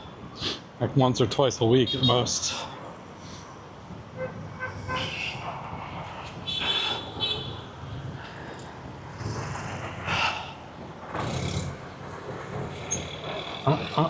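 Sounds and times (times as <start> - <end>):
cars passing: 0.0 - 14.0
traffic rumble: 0.0 - 14.0
motorbikes passing: 1.8 - 14.0.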